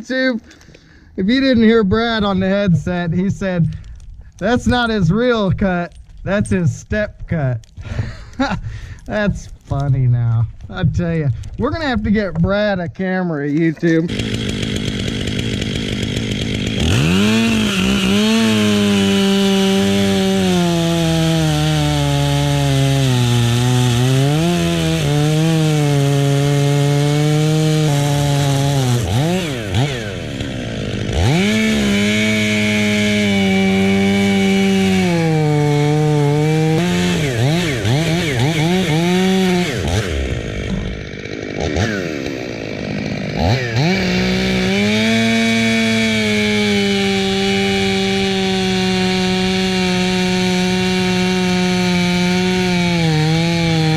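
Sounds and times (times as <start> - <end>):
chainsaw cutting wood: 0.4 - 12.4, 13.5 - 53.9.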